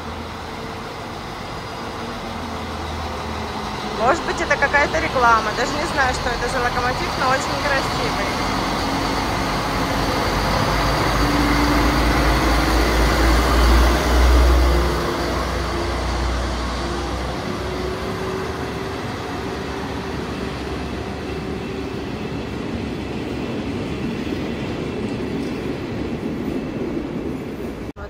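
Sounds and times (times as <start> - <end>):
rail noise: 0.0 - 28.0
train rumbling: 0.0 - 28.0.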